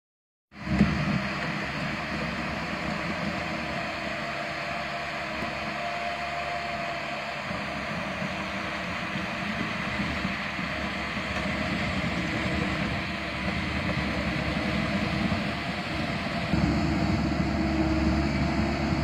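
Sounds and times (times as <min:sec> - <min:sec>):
tractor engine running: 0:00.6 - 0:19.0.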